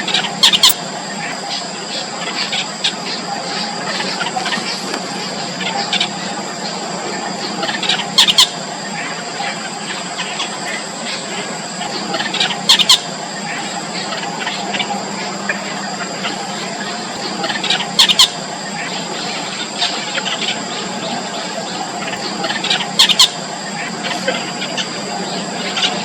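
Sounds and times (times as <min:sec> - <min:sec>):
chicks squeaky calls: 0:00.0 - 0:26.0.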